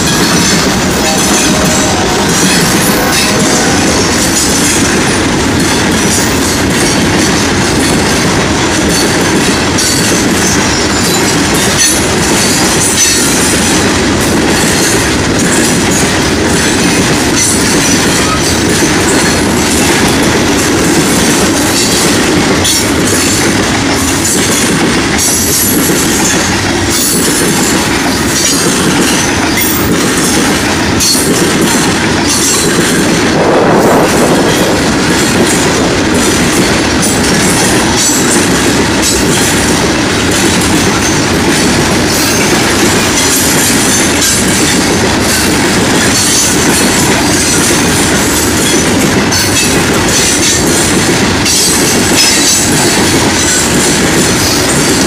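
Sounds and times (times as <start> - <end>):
freight train wheels clattering: 0.0 - 55.0.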